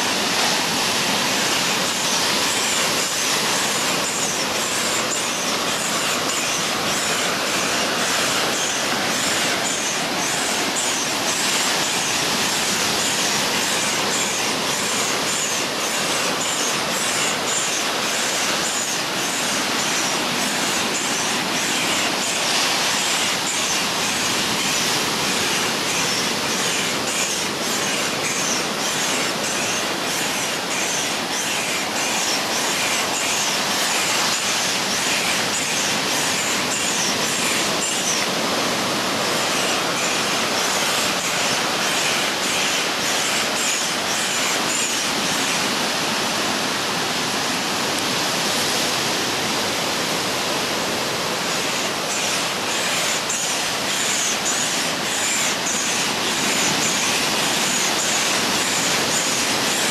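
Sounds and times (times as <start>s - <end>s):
air pump running: 0.0s - 59.9s
surf washing on shore: 0.0s - 59.9s.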